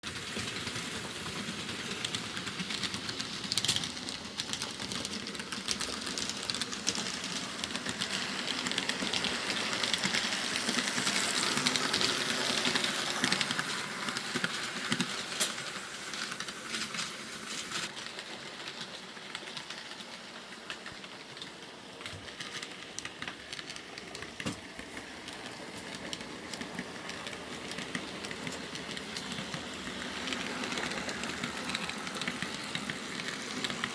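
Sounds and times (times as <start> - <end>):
model train wheels clicking: 0.0 - 33.9.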